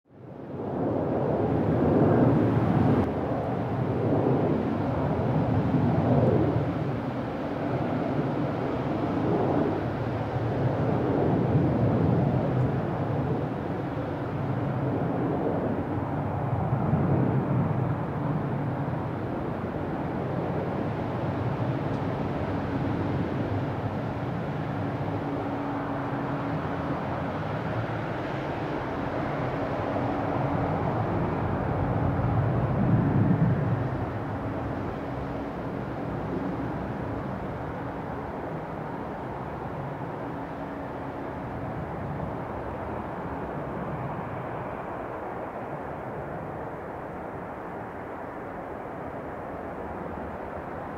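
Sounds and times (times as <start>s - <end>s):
jet engines rumbling: 0.2s - 50.9s.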